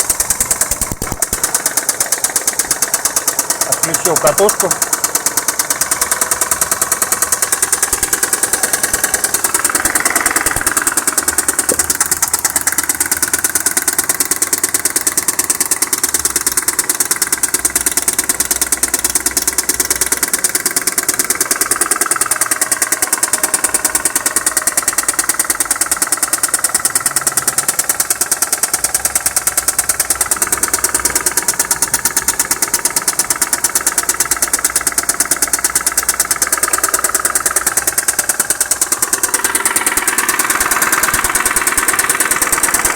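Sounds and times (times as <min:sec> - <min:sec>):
car engine idling with metallic knock: 0:00.0 - 0:42.9.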